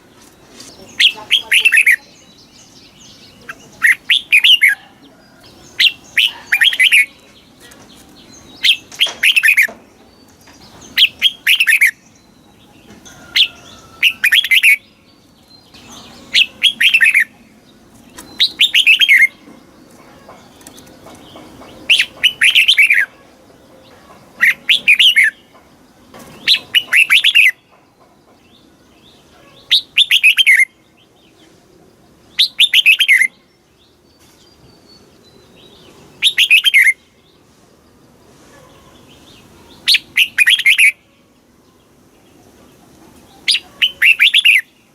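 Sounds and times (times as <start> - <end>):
bird singing: 0.0 - 37.5, 38.6 - 44.9.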